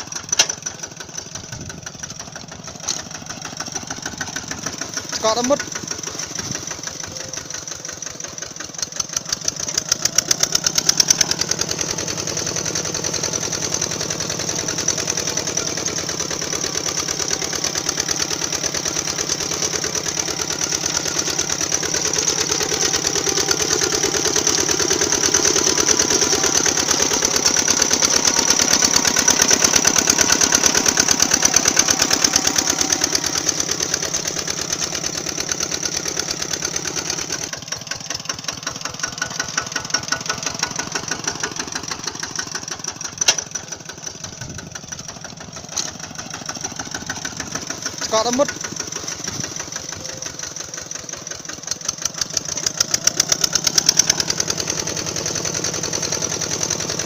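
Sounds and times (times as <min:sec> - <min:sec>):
toy tractor engine chugging: 0:00.0 - 0:57.0.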